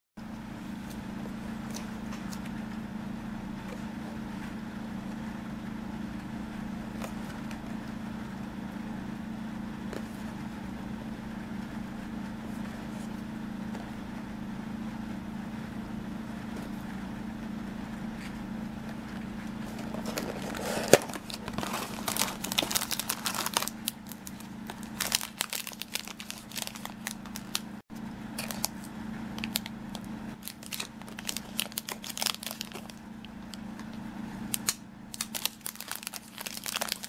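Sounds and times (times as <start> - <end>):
low background hum: 0.2 - 37.0.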